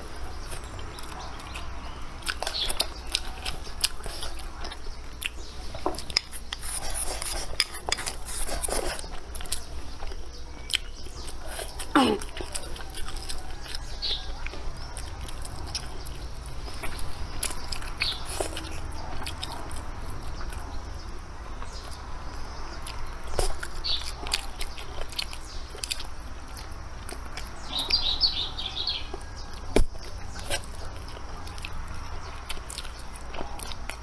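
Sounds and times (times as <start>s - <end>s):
person chewing: 0.0s - 28.0s, 29.1s - 34.0s.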